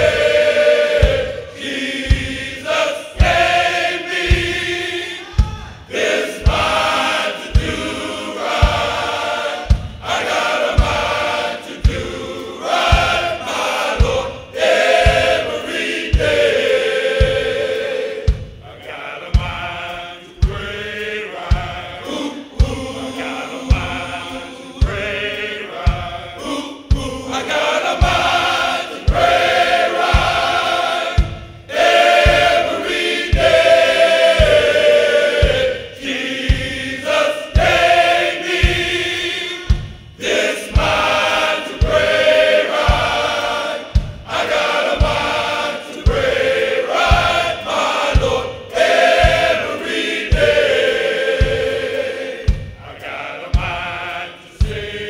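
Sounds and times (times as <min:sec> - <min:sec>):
men's gospel choir singing: 0:00.0 - 0:55.0
steady low beat: 0:00.0 - 0:55.0.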